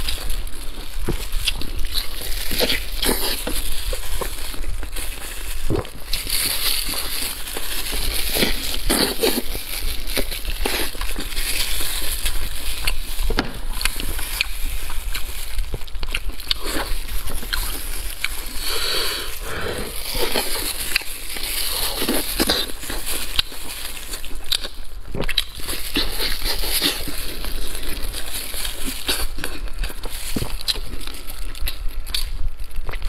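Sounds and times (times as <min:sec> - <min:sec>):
wet chewing and lip smacking: 0:00.0 - 0:19.2, 0:20.1 - 0:33.0
sticky tearing of meat: 0:00.0 - 0:33.0.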